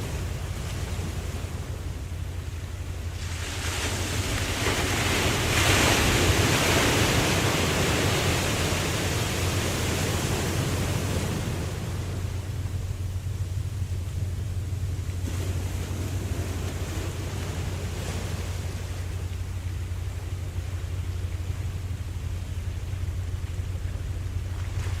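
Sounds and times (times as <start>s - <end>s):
low rumble: 0.0s - 25.0s
ocean wave washing in: 0.0s - 25.0s.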